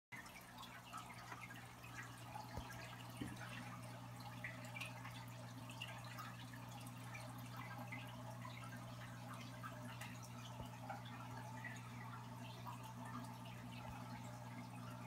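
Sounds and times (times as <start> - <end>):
aquarium air stone bubbling: 0.2 - 15.0
low equipment hum: 0.2 - 15.0.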